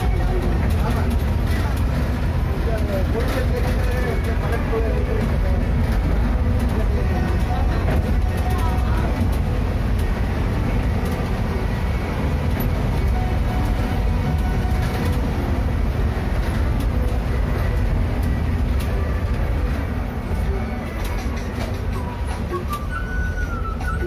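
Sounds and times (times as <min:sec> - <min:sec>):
vehicle cabin low rumble: 0:00.0 - 0:24.0.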